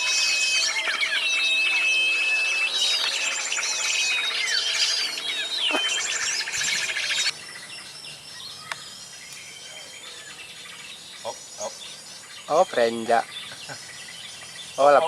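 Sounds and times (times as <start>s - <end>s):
bird calls whistles and trills: 0.0s - 15.0s
bird chirp: 0.0s - 15.0s
faint outdoor ambience: 0.0s - 15.0s.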